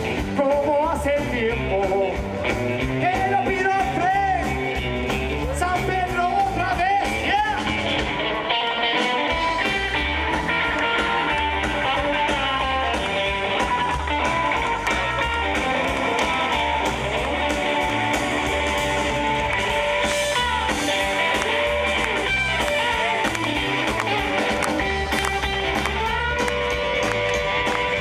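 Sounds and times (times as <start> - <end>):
country band playing: 0.0 - 28.0
guitar lead with bending notes: 0.0 - 28.0.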